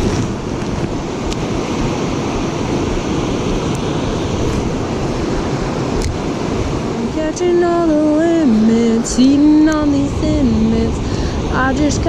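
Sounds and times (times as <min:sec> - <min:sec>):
river water rushing: 0:00.0 - 0:12.0
wind buffeting microphone: 0:00.0 - 0:12.0.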